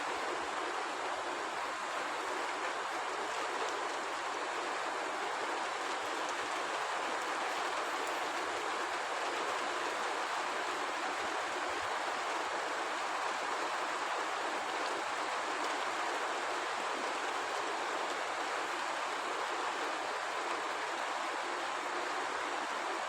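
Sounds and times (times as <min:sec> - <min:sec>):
rain falling steadily: 0:00.0 - 0:23.0.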